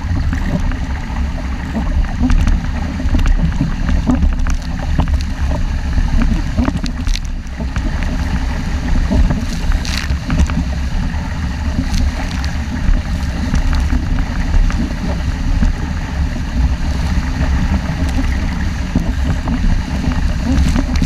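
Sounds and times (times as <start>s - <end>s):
water rushing past hull: 0.0s - 21.0s
wind buffeting microphone: 0.0s - 21.0s.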